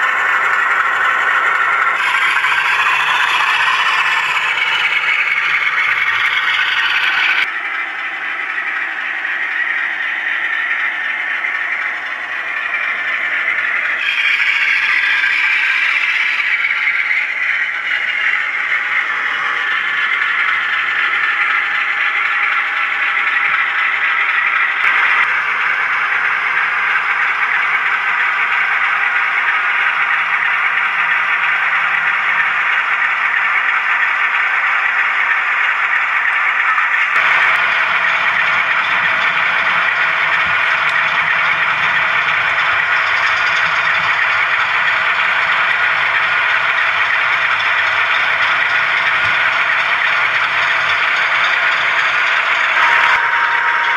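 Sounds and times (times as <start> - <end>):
model locomotive engine sound: 0.0 - 53.9
model wheels rattling on track: 0.0 - 53.9.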